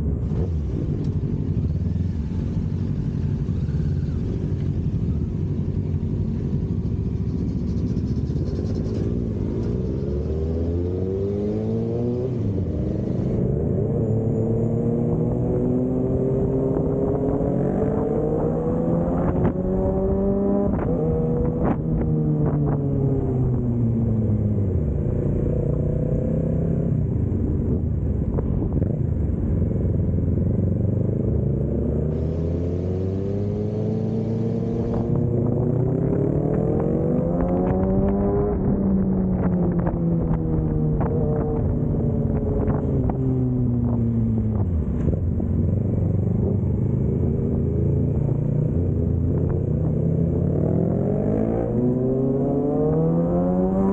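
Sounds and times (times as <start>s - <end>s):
vehicle engine accelerating: 0.0s - 53.9s
wind and road noise: 0.0s - 53.9s.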